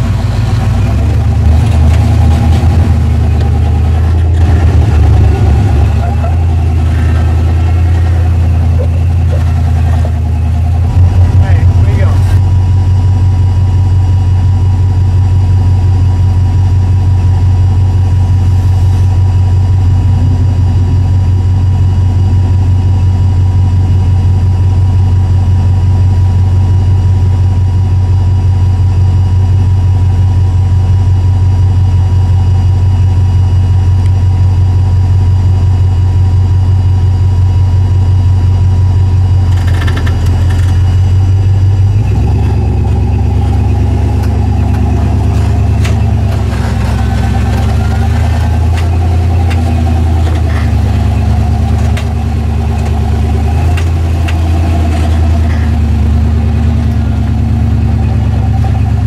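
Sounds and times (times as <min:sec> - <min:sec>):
engine idling from inside cab: 0:00.0 - 0:59.0.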